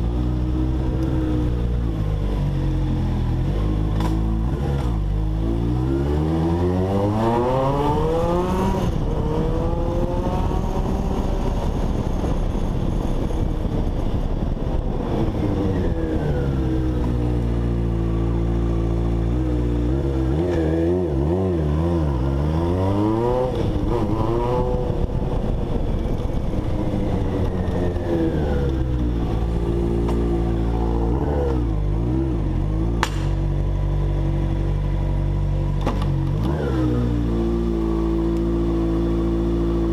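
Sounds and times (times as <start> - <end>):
motorcycle engine revving: 0.0 - 12.4, 14.9 - 39.9.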